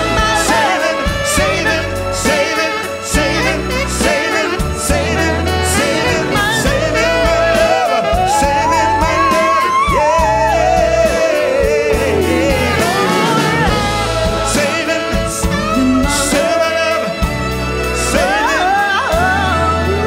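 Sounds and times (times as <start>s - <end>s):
man and woman singing: 0.0s - 17.3s, 17.9s - 20.0s
symphony orchestra: 0.0s - 20.0s.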